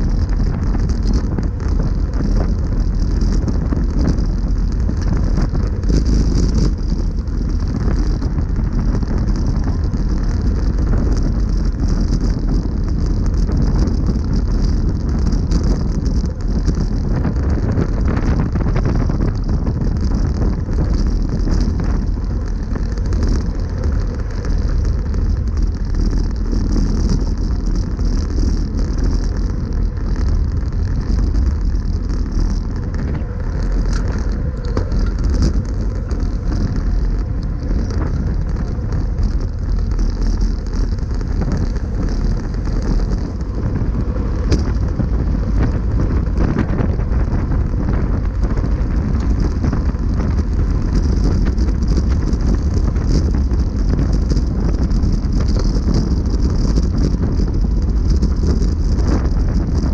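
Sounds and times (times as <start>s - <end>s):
tyre noise on concrete road: 0.0s - 59.9s
wind rush on microphone: 0.0s - 59.9s.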